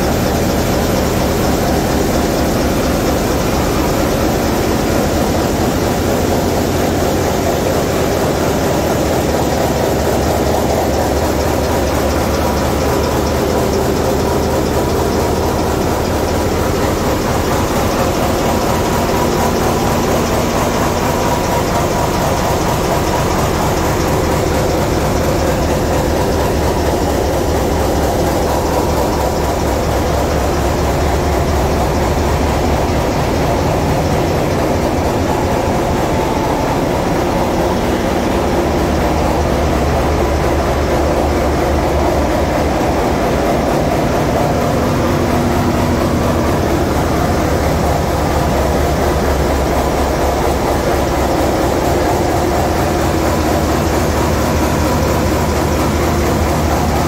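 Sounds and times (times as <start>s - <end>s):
ship diesel engines droning: 0.0s - 57.0s.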